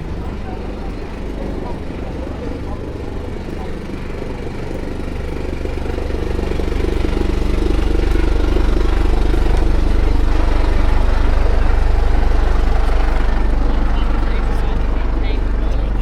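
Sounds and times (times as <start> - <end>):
engine idling with low throb: 0.0 - 16.0.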